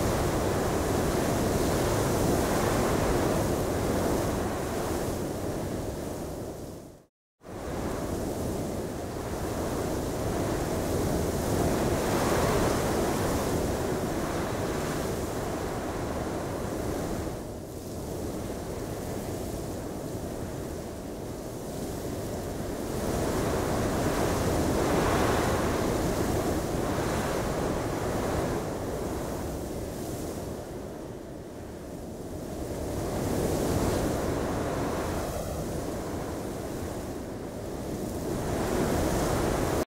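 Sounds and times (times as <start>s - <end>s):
gusting snowstorm wind: 0.0s - 39.9s.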